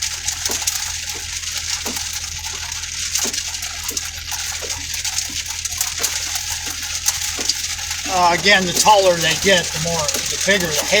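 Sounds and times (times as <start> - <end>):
heavy rain on vehicle roof: 0.0 - 11.0
low steady hum: 0.0 - 11.0.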